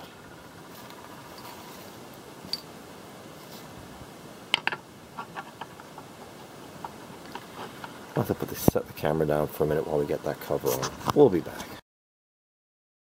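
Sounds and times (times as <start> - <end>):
faint steady hiss: 0.0 - 11.8.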